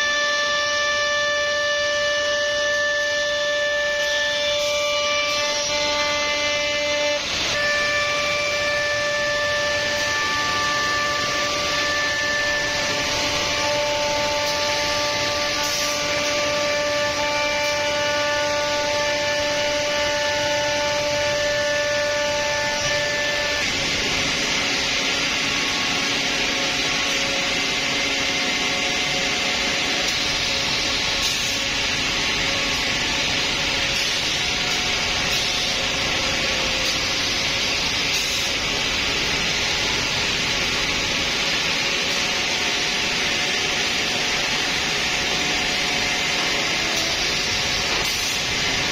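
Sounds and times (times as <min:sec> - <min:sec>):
router spindle whine: 0:00.0 - 0:48.9
cutting hiss: 0:03.9 - 0:27.8, 0:29.5 - 0:43.1, 0:45.5 - 0:48.9.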